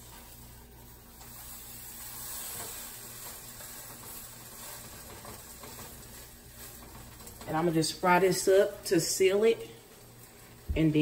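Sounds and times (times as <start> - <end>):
burrito sizzling in skillet: 0.0 - 11.0.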